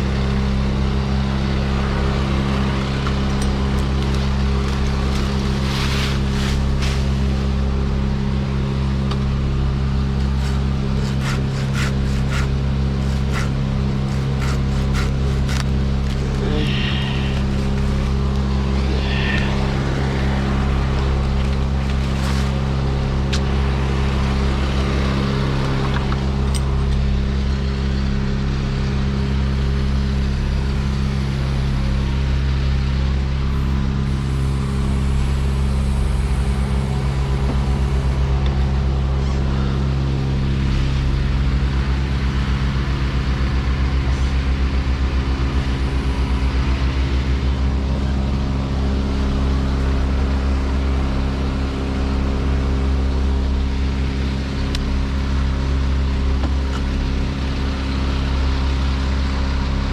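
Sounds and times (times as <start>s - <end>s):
heavy machine engine running: 0.0s - 59.9s.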